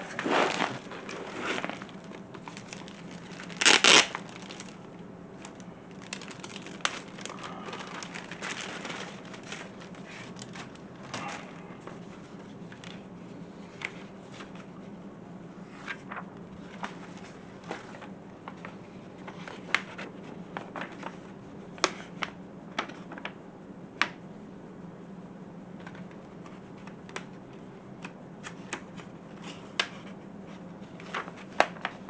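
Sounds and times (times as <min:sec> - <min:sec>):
paper rustling: 0:00.0 - 0:14.9, 0:15.6 - 0:23.3, 0:28.4 - 0:32.0.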